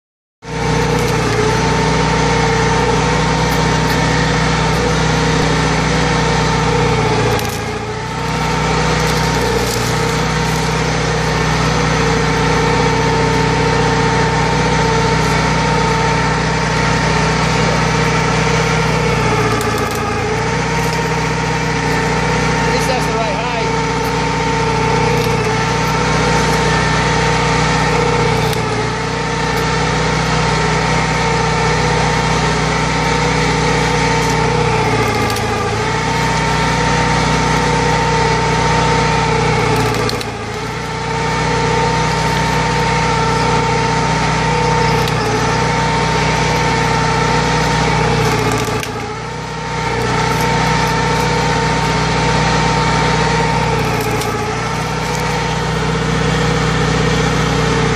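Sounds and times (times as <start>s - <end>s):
engine running steadily: 0.4s - 57.9s.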